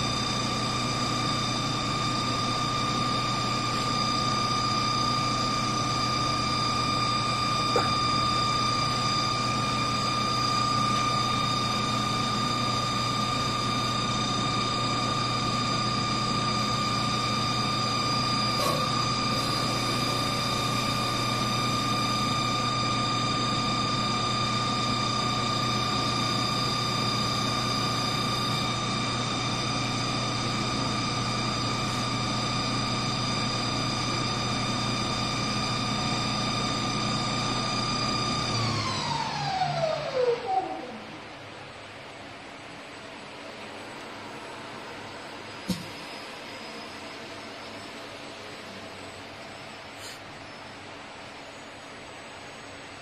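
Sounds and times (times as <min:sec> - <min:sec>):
lathe motor whining: 0:00.0 - 0:53.0.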